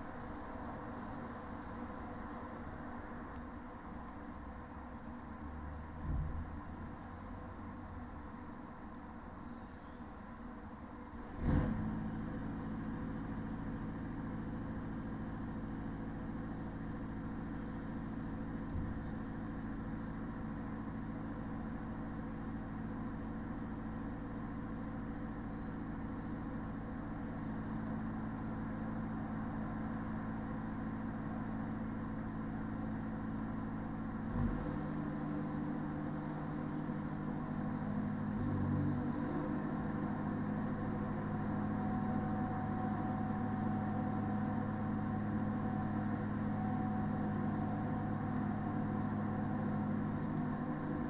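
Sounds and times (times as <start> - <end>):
diesel engine and refrigeration hum: 0.0 - 51.0.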